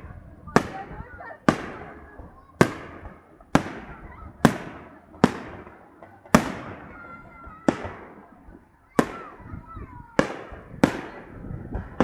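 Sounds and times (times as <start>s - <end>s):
fireworks shell bursts with echo: 0.0s - 12.0s.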